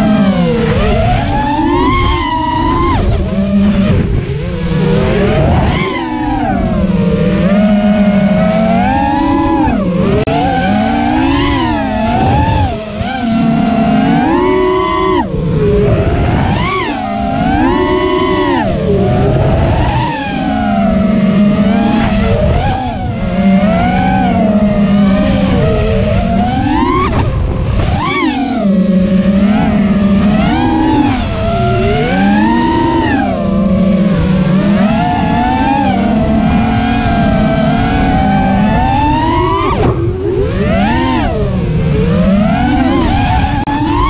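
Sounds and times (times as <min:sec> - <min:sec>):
quadcopter motors whining: 0:00.0 - 0:44.0.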